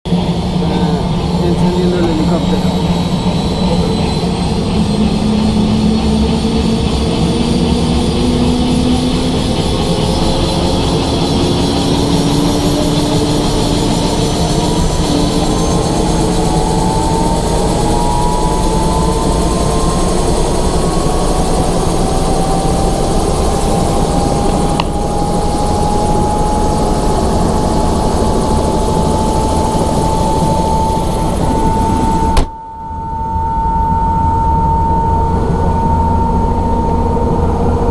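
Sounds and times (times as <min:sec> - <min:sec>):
helicopter engine and rotor: 0:00.0 - 0:37.9.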